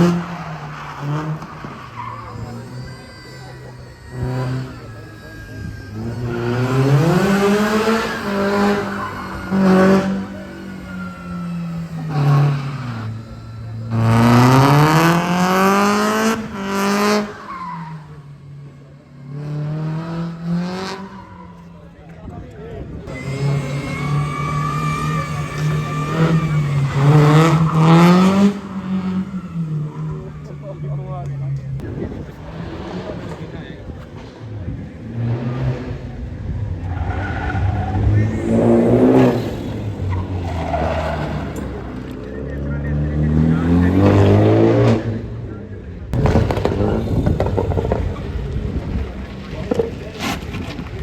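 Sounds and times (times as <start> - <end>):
car engine revving hard: 0.0 - 21.6, 23.1 - 45.5, 46.1 - 51.0
tyres squealing: 0.0 - 22.1, 23.1 - 31.8, 36.8 - 42.5, 46.2 - 51.0.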